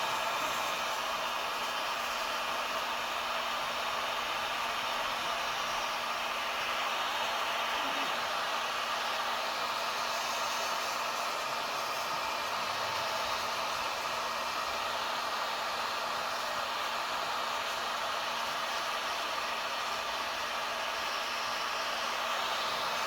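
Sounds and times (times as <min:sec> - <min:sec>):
heat gun blowing air: 0:00.0 - 0:23.0.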